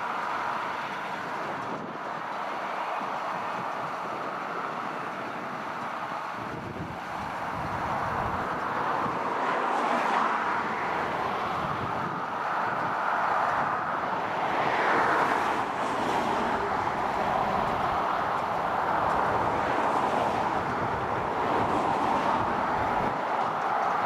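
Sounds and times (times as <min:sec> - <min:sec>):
tractor engine running: 0:00.0 - 0:09.4, 0:10.4 - 0:24.0.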